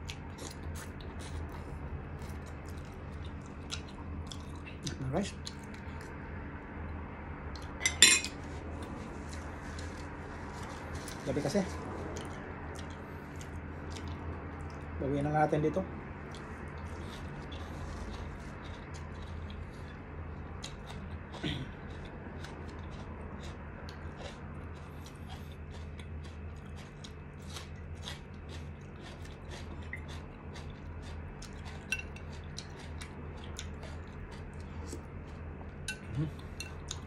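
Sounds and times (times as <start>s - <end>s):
person chewing and eating: 0.0s - 15.0s, 15.6s - 37.0s
low hum: 0.0s - 37.0s.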